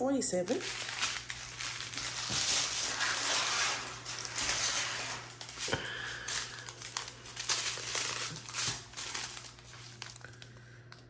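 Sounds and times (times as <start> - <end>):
small plastic bags crinkling: 0.4 - 11.0.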